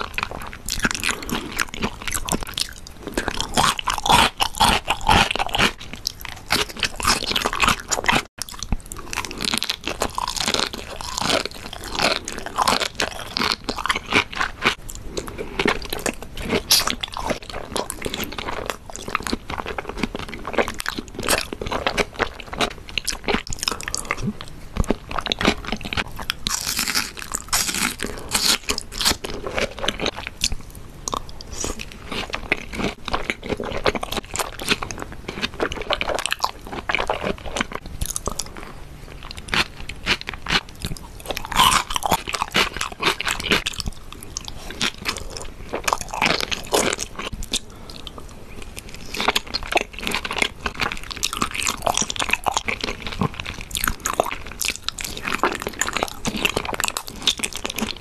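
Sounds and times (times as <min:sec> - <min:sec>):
wet chewing and biting: 0:00.0 - 0:58.0.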